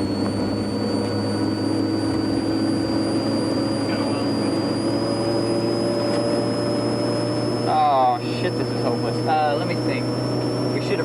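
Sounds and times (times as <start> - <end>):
high-pitched whine rising: 0.0 - 11.0
van engine and road noise: 0.0 - 11.0.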